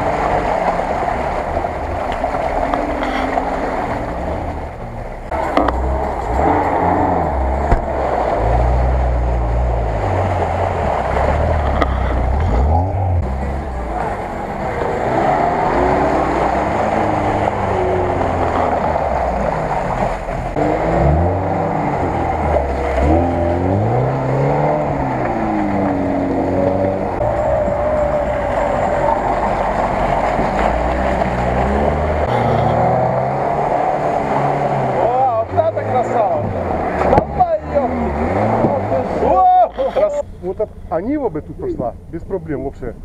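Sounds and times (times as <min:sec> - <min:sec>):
car engines revving: 0:00.0 - 0:43.0
mud and water splashing: 0:00.0 - 0:43.0.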